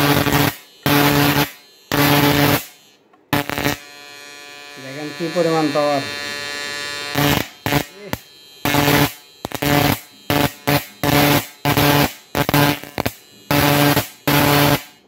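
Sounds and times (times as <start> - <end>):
electric arc buzzing crackles: 0.0 - 15.0.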